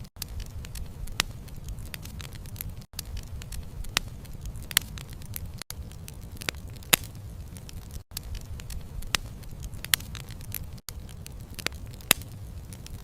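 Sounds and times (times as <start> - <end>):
campfire rumble: 0.0 - 13.0
wood crackling and popping: 0.0 - 13.0.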